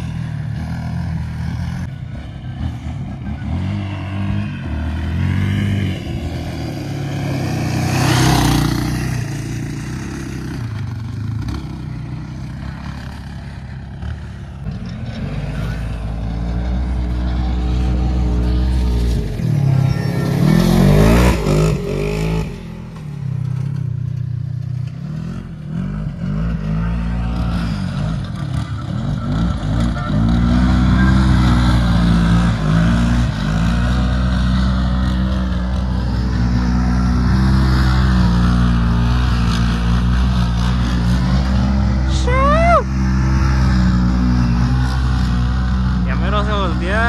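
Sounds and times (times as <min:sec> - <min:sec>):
off-road vehicle engine revving: 0:00.0 - 0:47.0.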